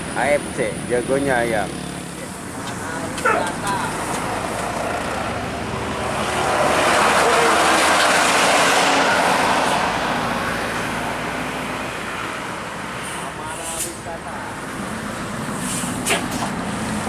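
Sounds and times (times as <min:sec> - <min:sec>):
coach passing on road: 0:00.0 - 0:17.0.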